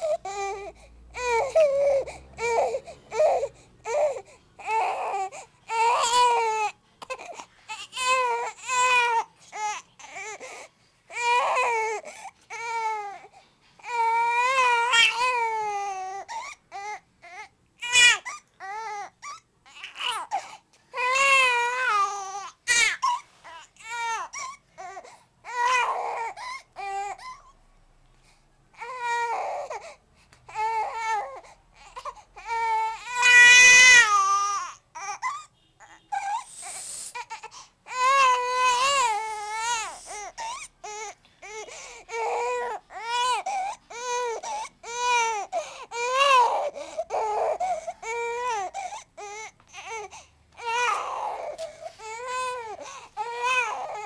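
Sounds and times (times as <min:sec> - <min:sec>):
infant crying: 0:00.0 - 0:27.6, 0:28.8 - 0:54.0.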